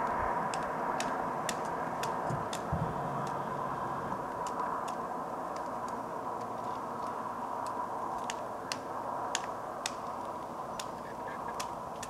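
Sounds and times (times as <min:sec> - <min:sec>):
steady background hiss: 0:00.0 - 0:12.0
woodpecker pecking at tree trunk: 0:00.5 - 0:12.0.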